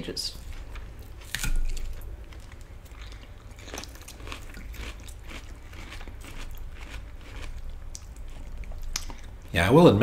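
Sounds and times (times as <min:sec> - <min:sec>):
chewing crisp lettuce: 0:00.5 - 0:09.4.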